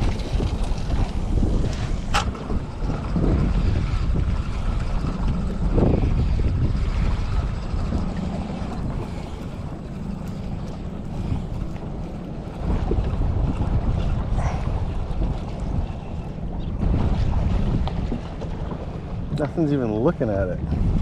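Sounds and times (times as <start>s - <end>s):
water against hull: 0.0s - 21.0s
wind buffeting microphone: 0.0s - 21.0s.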